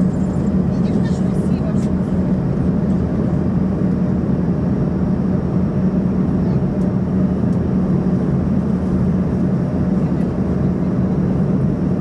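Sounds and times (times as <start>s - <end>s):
jet engines droning: 0.0s - 12.0s
steady low hum: 0.0s - 12.0s.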